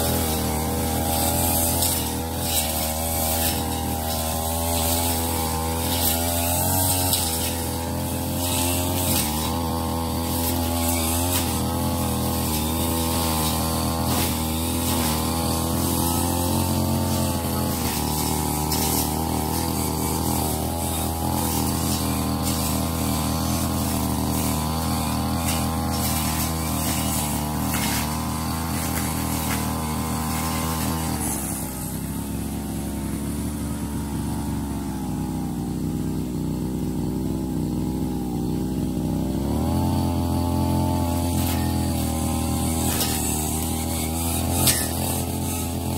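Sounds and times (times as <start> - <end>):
brush cutter engine running: 0.0 - 45.9.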